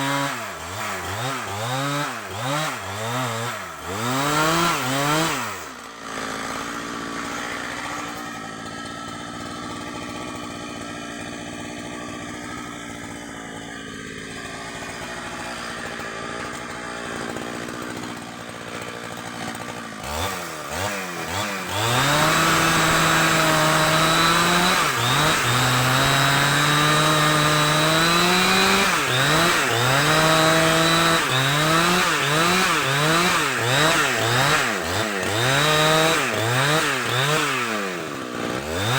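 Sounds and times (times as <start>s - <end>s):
chainsaw cutting wood: 0.0s - 38.9s
chainsaw idling and revving: 0.0s - 38.9s.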